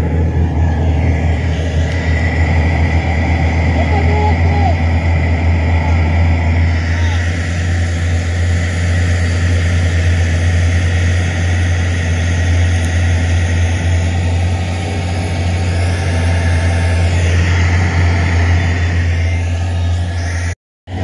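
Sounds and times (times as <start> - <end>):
diesel truck engines idling: 0.0 - 21.0.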